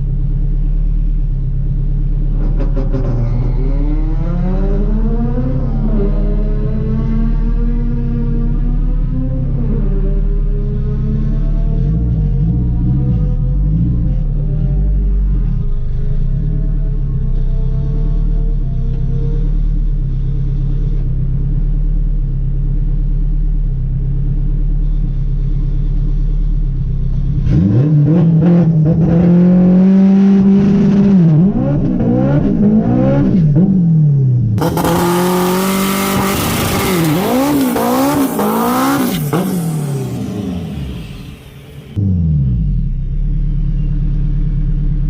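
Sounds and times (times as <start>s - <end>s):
car engine revving: 0.0s - 21.7s, 26.7s - 45.0s.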